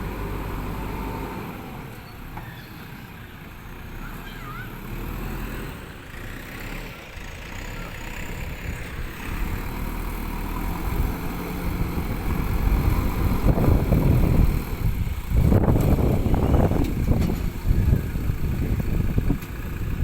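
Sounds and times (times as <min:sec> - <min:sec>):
backhoe diesel engine running: 0:00.0 - 0:20.0.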